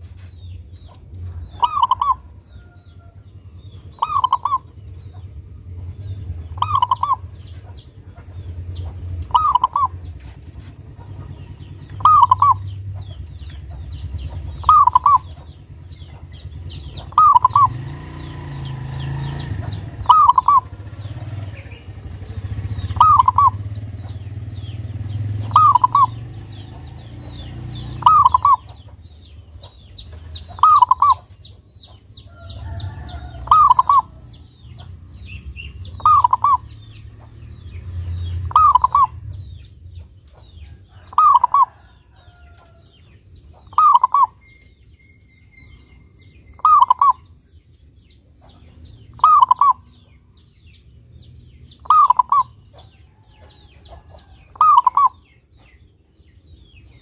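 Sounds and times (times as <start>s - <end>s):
small birds chirping: 0.0s - 57.0s
dove cooing: 0.9s - 37.4s, 38.0s - 42.8s, 43.6s - 44.6s, 45.6s - 47.3s, 48.4s - 50.2s, 51.7s - 55.2s.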